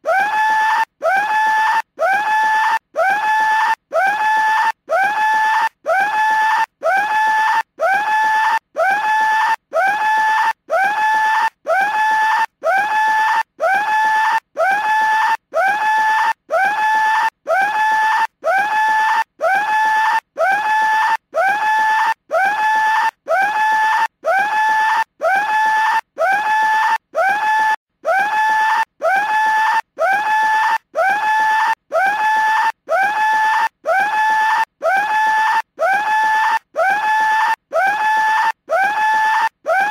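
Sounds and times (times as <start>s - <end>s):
screaming ringtone: 0.0s - 39.9s.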